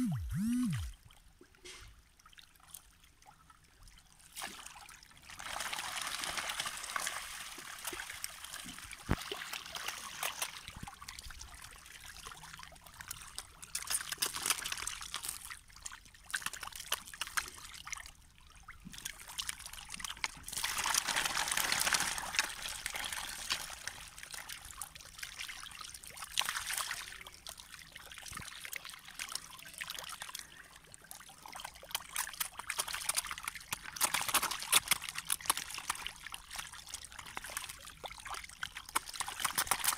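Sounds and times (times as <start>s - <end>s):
fish splashing in water: 4.3s - 18.1s, 19.0s - 30.3s, 31.2s - 39.9s.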